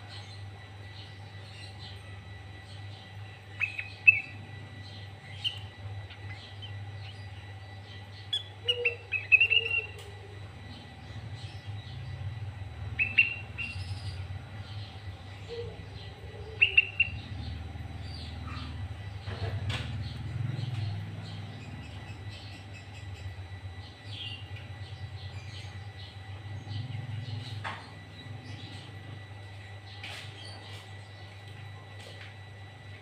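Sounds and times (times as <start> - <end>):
steady low hum: 0.0 - 33.0
bird chirping: 0.1 - 29.0.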